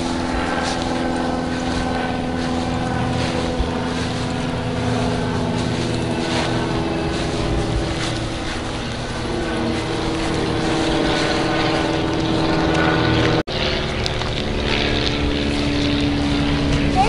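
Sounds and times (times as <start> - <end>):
machine droning hum: 0.0 - 17.0.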